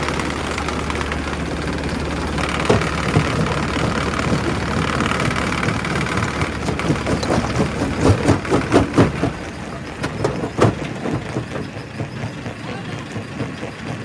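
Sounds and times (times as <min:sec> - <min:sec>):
rock crusher running: 0:00.0 - 0:14.0.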